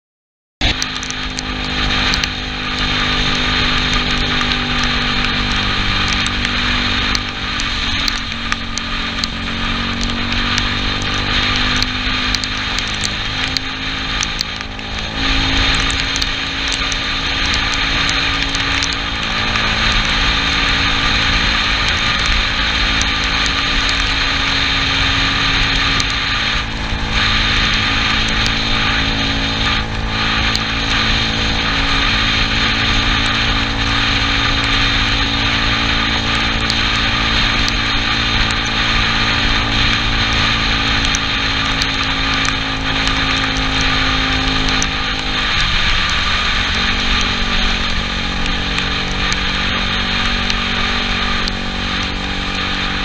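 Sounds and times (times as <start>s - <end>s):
scooter engine running: 0.6s - 53.0s
wind and tyres on wet road: 0.6s - 53.0s.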